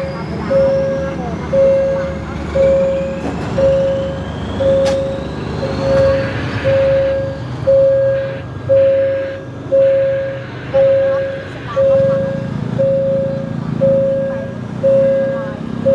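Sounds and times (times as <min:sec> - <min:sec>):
train rumbling past: 0:00.0 - 0:15.9
warning signal beeping: 0:00.0 - 0:15.9.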